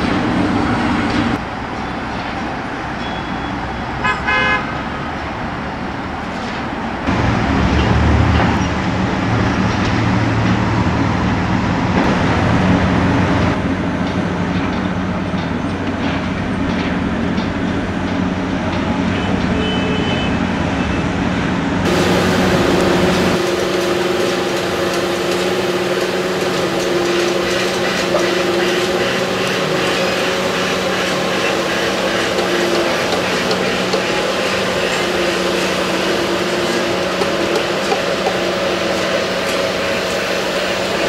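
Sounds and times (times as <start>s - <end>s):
diesel machinery running: 7.0s - 41.0s.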